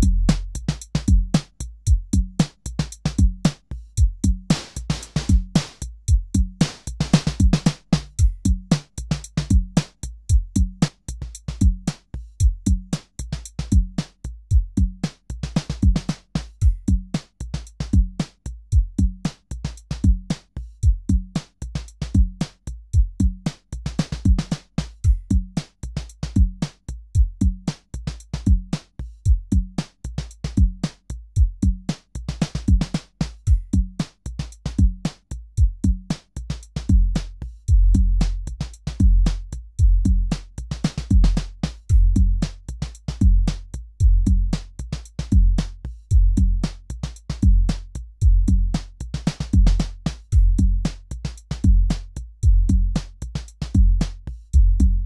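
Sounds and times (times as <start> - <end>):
drum machine beat: 0.0 - 55.0.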